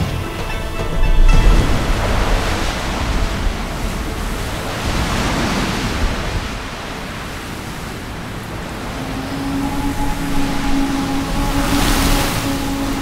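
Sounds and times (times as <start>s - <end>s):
wind and blowing sand: 0.0s - 13.0s.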